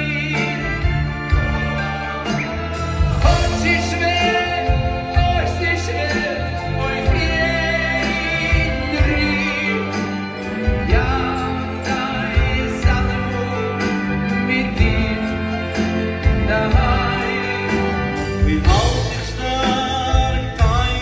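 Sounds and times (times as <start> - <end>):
band and orchestra playing: 0.0 - 21.0
men singing into microphones: 3.2 - 21.0.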